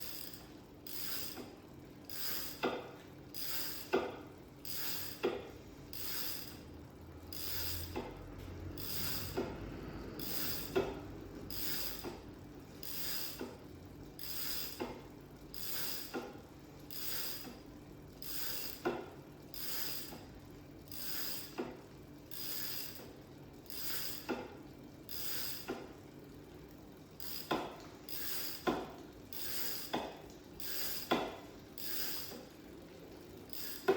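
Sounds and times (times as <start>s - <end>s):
bicycle drivetrain clicking: 0.0s - 33.9s.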